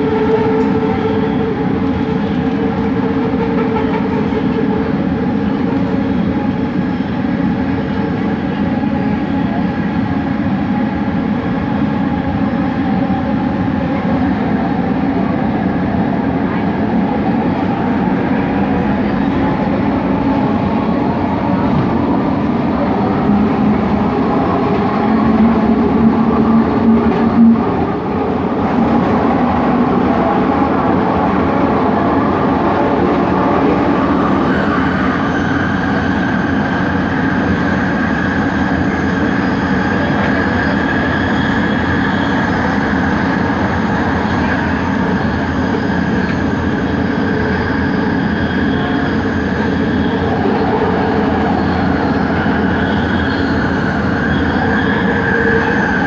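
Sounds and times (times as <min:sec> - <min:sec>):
train running gear rumble: 0:00.0 - 0:56.0.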